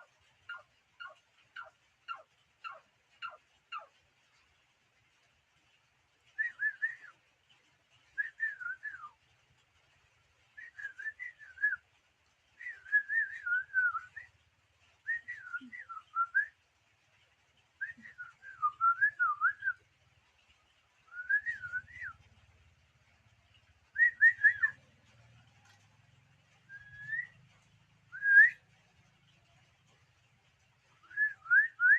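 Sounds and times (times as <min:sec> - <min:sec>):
songbird singing: 0:00.0 - 0:31.9.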